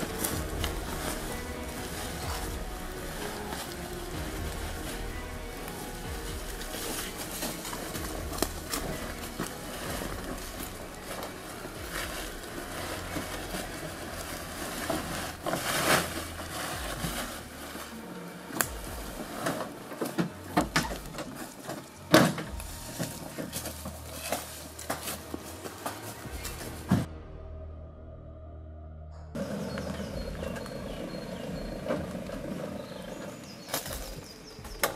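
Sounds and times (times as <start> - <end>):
tarp rustling: 0.0 - 27.1, 29.4 - 34.9.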